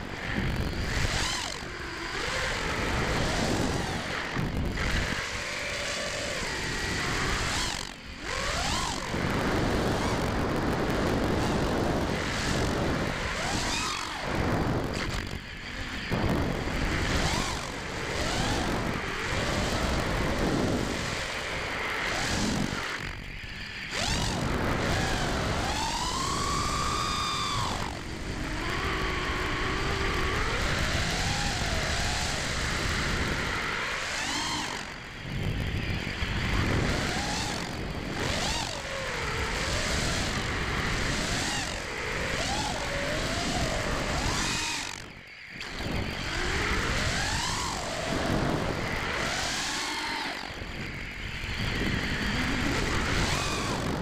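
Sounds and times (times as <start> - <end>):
quadcopter motors buzzing whine: 0.0 - 54.0.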